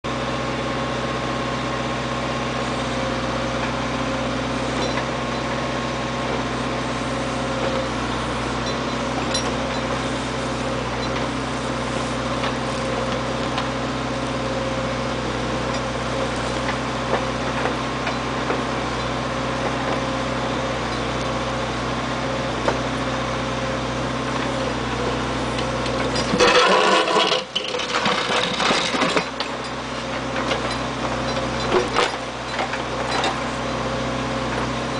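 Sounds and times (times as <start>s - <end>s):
backhoe engine idling: 0.1s - 34.9s.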